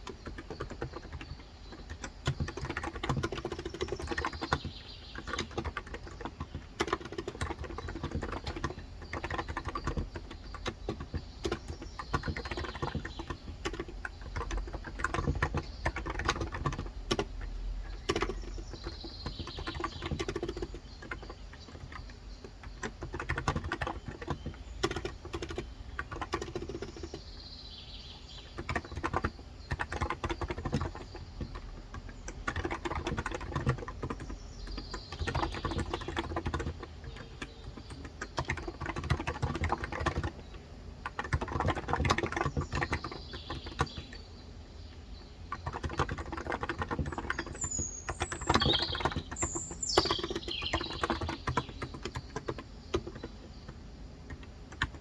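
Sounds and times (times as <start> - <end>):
fast keyboard typing: 0.0 - 44.3, 45.0 - 55.0.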